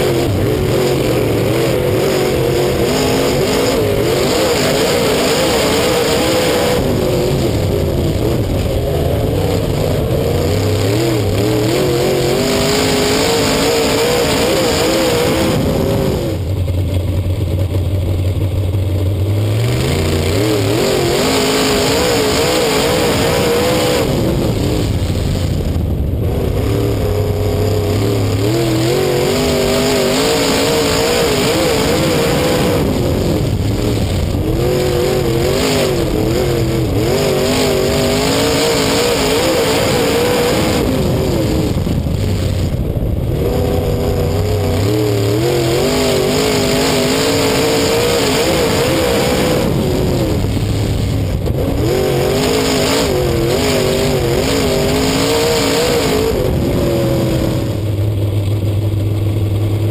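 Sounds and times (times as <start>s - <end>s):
race car engine: 0.0s - 59.9s
wind and track noise: 0.0s - 59.9s.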